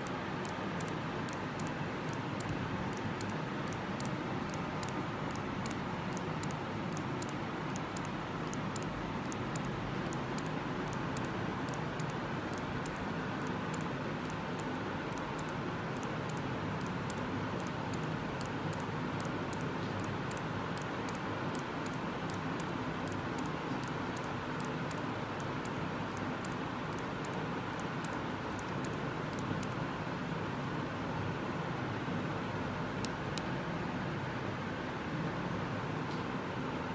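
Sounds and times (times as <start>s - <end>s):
steady background noise: 0.0s - 36.9s.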